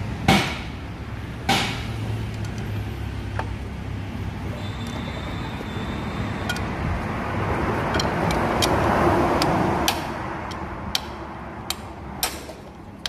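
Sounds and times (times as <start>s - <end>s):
vehicle passing: 1.9s - 13.0s.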